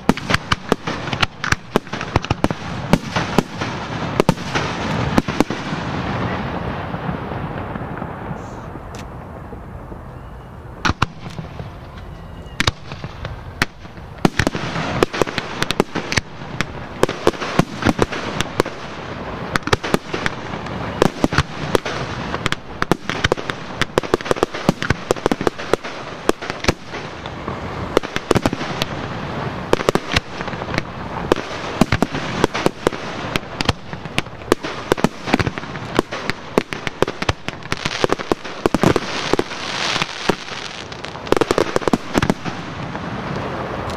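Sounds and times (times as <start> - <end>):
fireworks bangs: 0.0 - 43.9.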